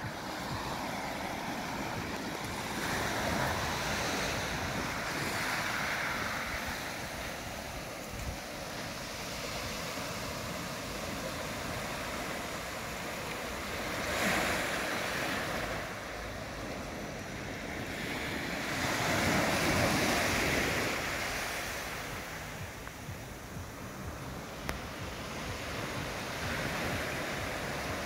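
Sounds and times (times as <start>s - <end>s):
small waves washing ashore: 0.0s - 28.0s.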